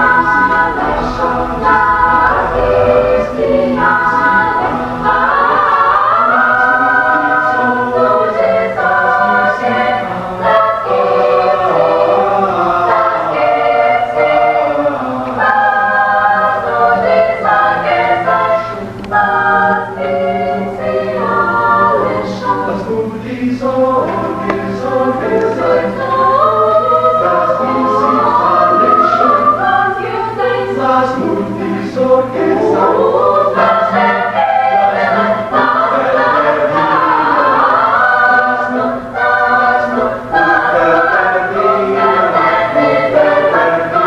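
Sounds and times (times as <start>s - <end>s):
choir singing: 0.0s - 44.0s.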